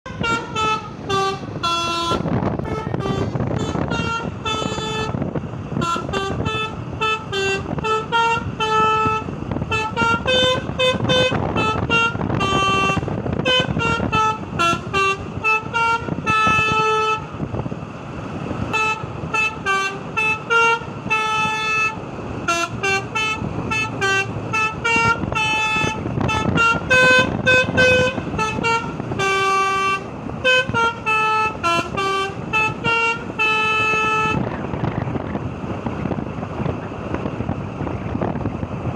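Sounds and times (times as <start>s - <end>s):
multi-tone bus horn melody: 0.0s - 38.9s.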